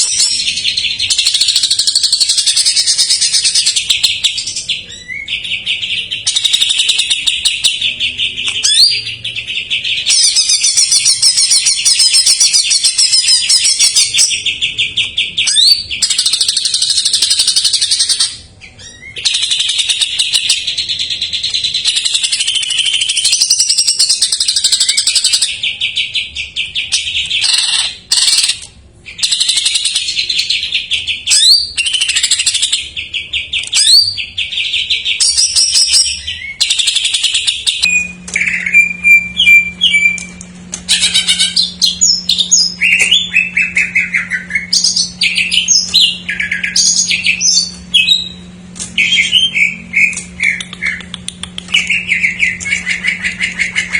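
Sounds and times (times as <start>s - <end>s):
bird singing trills and whistles: 0.0s - 53.9s
steady low hum: 0.0s - 53.9s.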